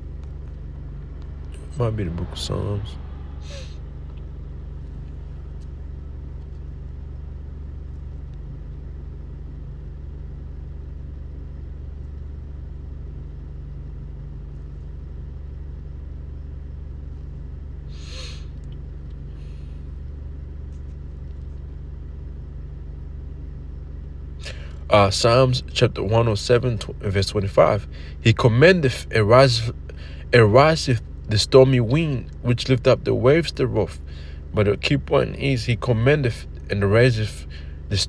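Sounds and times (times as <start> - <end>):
low background rumble: 0.0 - 38.0.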